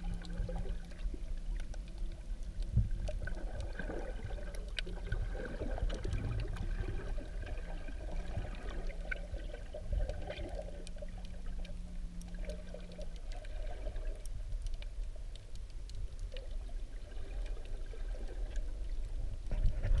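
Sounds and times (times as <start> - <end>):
faint clicks: 0.0 - 5.2, 5.8 - 6.7, 8.6 - 20.0
faint low hum: 0.0 - 20.0
muffled underwater rumble: 0.0 - 20.0.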